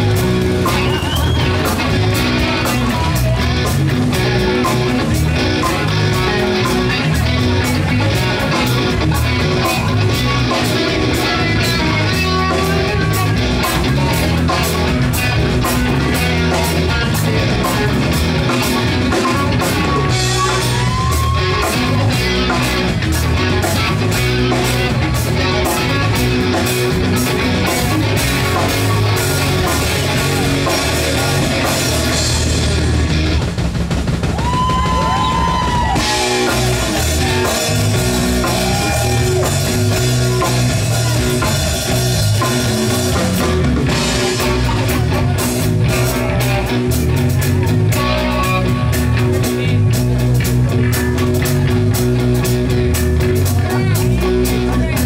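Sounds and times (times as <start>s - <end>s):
bass guitar: 0.0s - 55.0s
distorted electric guitars: 0.0s - 55.0s
drum kit beat: 0.0s - 55.0s.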